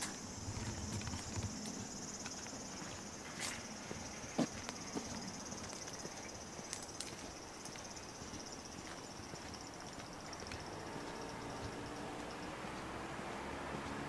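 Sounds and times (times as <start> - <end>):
light footsteps tapping: 0.0 - 12.9
insects trilling: 0.0 - 14.0.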